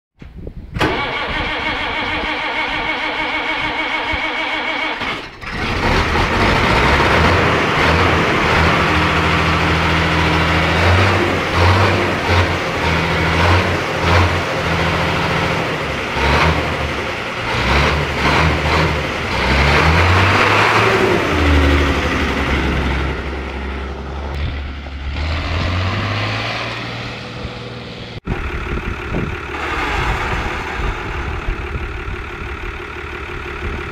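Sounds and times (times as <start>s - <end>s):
tractor diesel engine revving: 0.8s - 33.9s.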